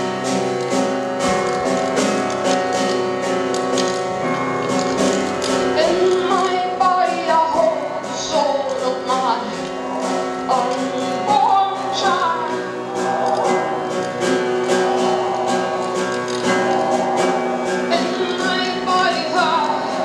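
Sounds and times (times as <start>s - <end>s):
person singing gliding notes: 0.0s - 20.0s
upright piano playing: 0.0s - 20.0s.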